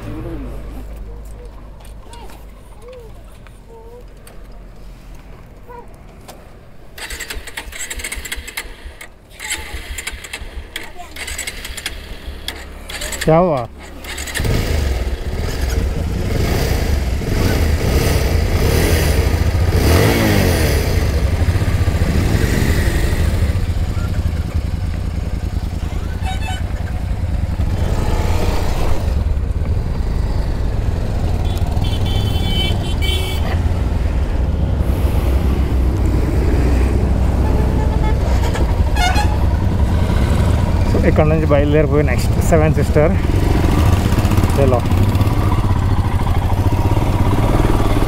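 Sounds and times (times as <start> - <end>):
motorcycle engine running: 7.7 - 34.6, 35.7 - 48.0.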